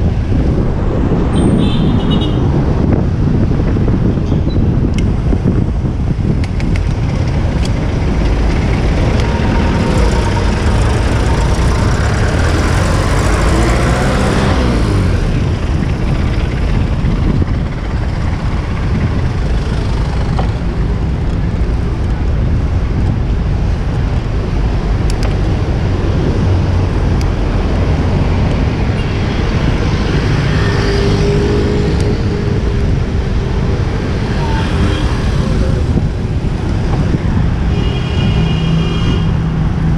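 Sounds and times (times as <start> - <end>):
city traffic: 0.0 - 39.9
vehicles passing close by: 0.0 - 39.9
wind rumbling on microphone: 0.0 - 39.9.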